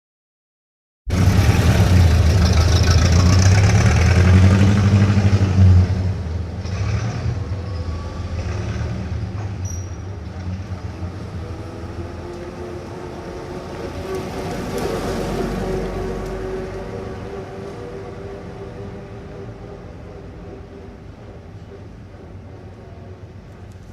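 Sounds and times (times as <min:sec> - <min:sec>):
passing traffic: 0:01.1 - 0:23.9
vehicle engine rumbling close by: 0:01.1 - 0:23.9.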